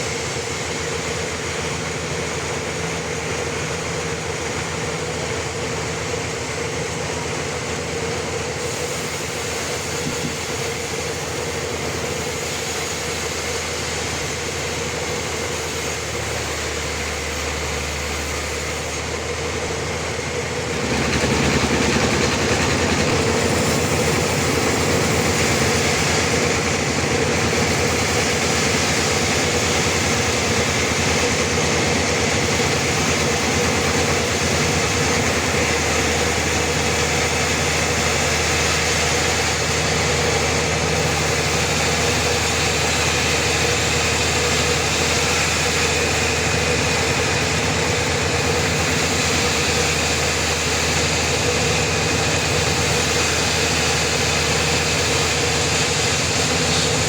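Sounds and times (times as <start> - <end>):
band saw machine hum: 0.0 - 57.0.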